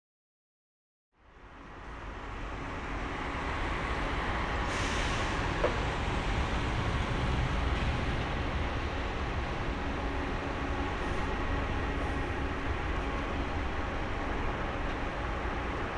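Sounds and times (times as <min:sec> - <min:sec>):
jet engine rumble with whine: 0:01.6 - 0:15.9.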